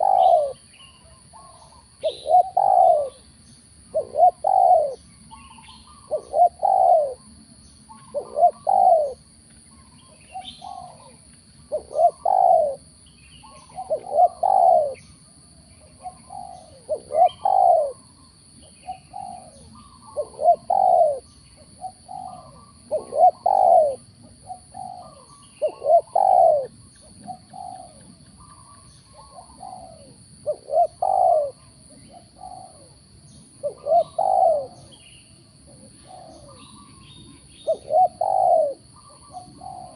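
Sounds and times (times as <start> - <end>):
doves cooing: 0.0 - 3.2, 3.9 - 7.3, 7.9 - 9.2, 9.8 - 15.0, 15.8 - 18.2, 18.8 - 35.0, 35.6 - 39.9.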